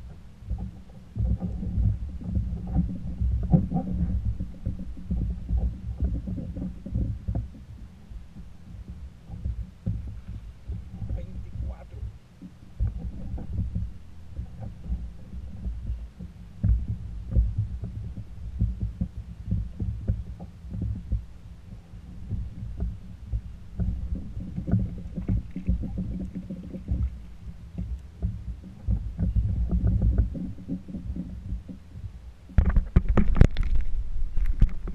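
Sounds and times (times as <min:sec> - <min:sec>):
low thuds through kayak hull: 0:00.0 - 0:34.9.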